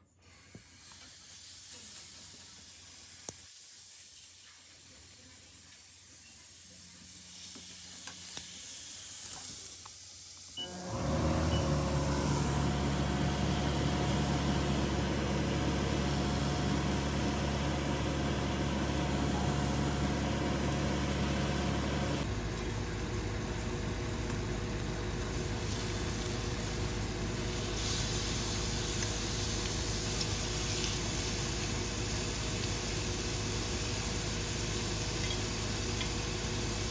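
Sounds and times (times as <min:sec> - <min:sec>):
machine hum with hiss: 0:00.0 - 0:36.9.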